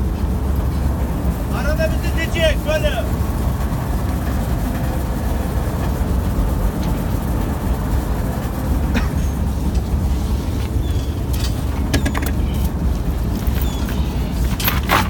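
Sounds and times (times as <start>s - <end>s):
engine and winch rumbling: 0.0s - 15.0s.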